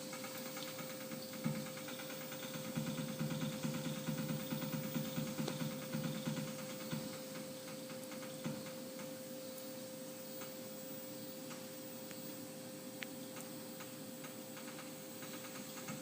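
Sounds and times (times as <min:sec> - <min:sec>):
machine hum: 0:00.0 - 0:16.0
regular machine pulses: 0:00.0 - 0:16.0.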